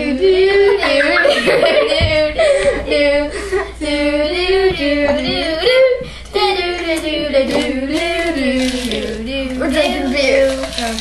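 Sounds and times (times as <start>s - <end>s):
girls singing long notes: 0.0s - 10.5s.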